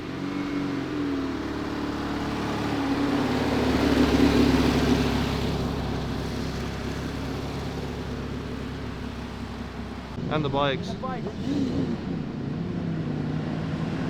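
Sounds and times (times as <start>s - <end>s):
car passing by: 0.0s - 14.0s.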